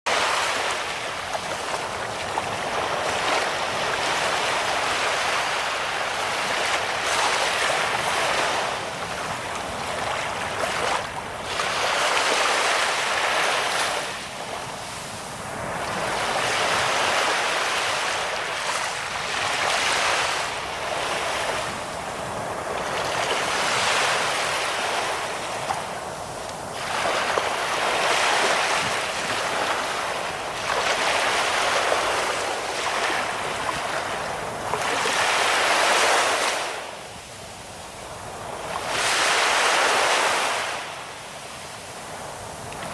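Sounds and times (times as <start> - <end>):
waves breaking and washing in: 0.1 - 42.9.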